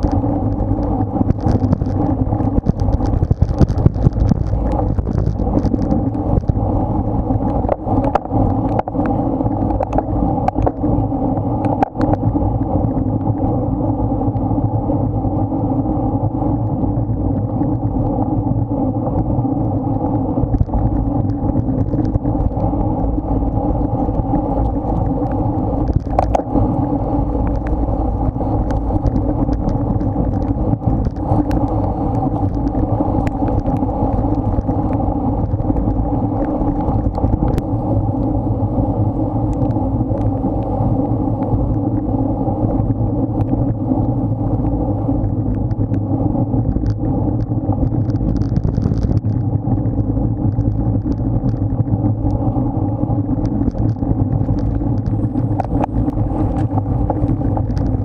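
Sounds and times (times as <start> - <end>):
wind and road rush: 0.0 - 58.0.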